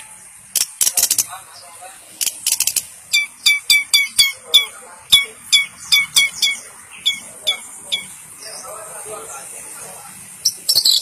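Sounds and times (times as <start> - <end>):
shrike calling: 0.0 - 8.9, 10.4 - 11.0.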